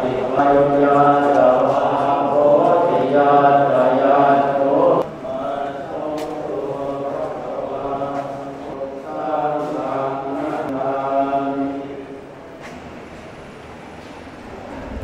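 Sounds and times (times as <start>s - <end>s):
voices chanting in drone: 0.0s - 12.5s.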